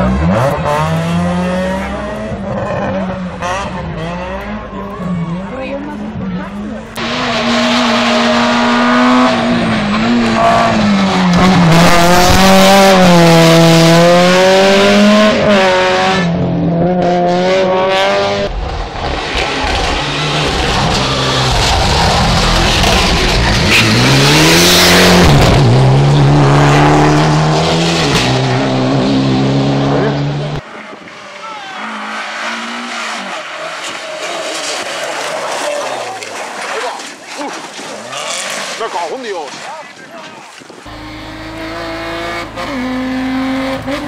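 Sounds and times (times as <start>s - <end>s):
rally car engines revving: 0.0s - 39.8s, 40.8s - 44.0s.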